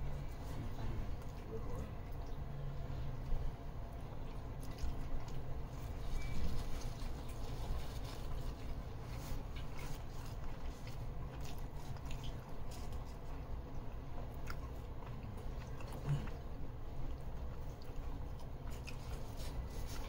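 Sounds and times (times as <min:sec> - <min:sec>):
person chewing crusty sandwich: 0:03.3 - 0:20.0.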